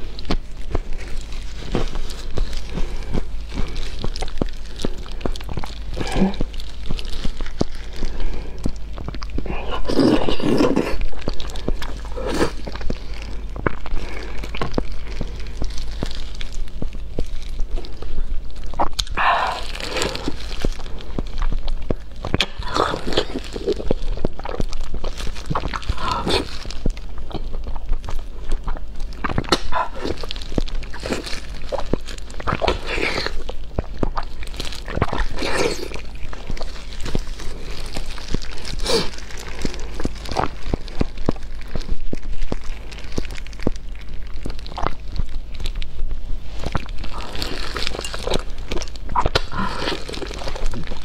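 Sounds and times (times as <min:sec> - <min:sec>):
crunch of food: 0:00.0 - 0:51.0
low steady hum: 0:00.0 - 0:51.0
wet chewing and lip-smacking: 0:00.0 - 0:51.0.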